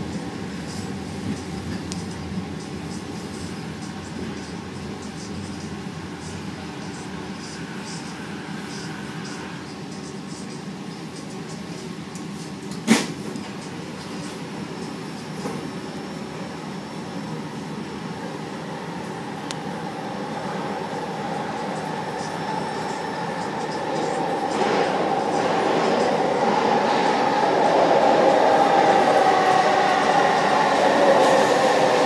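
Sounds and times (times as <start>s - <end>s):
train approaching in station: 0.0s - 32.0s
train whine: 0.0s - 32.0s.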